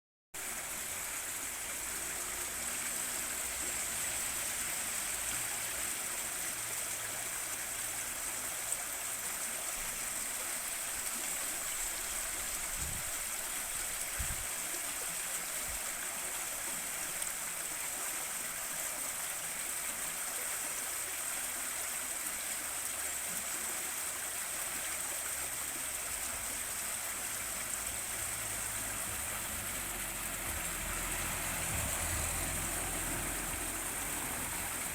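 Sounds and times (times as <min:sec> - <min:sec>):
river water flowing over rocks: 0:00.4 - 0:34.9.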